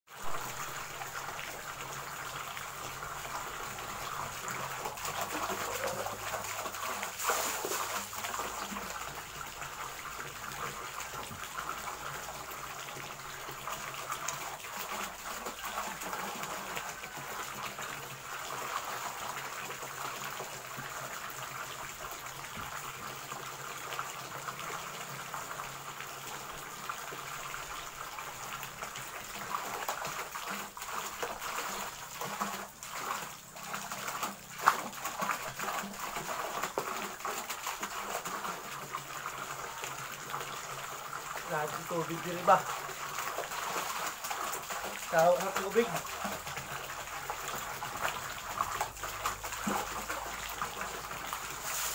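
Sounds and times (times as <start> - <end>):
water splashing: 0.1 - 20.1, 27.5 - 51.9
water pouring from a pipe: 0.1 - 51.9.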